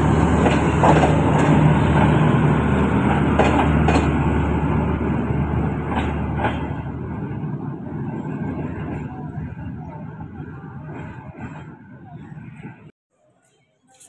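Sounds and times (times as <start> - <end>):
train coaches rumbling past: 0.0 - 12.9.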